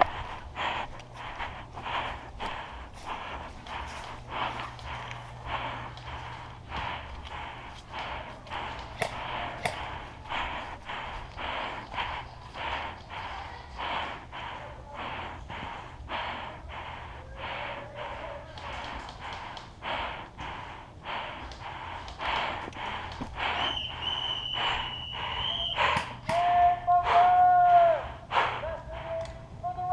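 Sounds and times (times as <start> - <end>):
person panting hard: 0.0 - 29.9.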